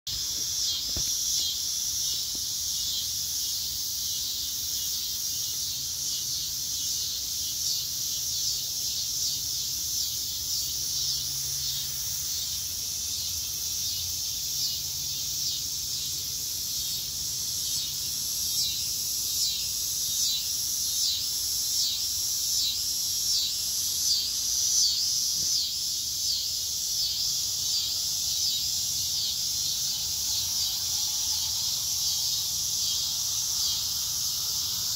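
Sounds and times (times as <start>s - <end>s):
insects singing: 0.1s - 34.9s.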